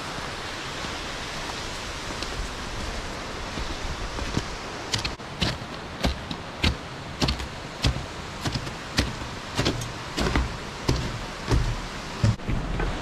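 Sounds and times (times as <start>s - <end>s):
crampon footsteps crunching snow: 0.7s - 13.0s.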